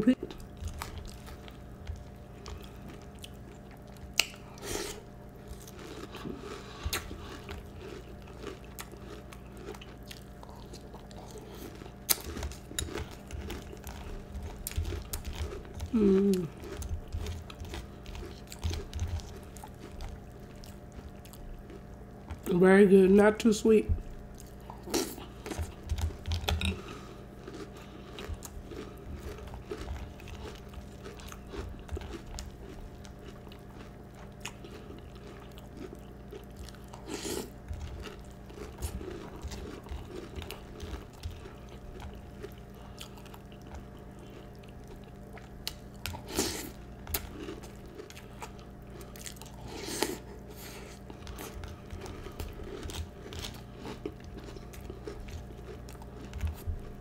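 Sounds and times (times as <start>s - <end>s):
chewing and crunching cereal: 0.0s - 22.6s, 23.4s - 57.0s
faint steady hum: 0.0s - 57.0s.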